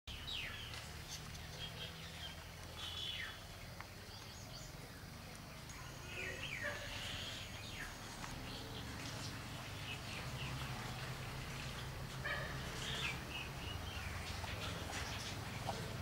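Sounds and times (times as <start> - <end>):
birds chirping: 0.1 - 16.0.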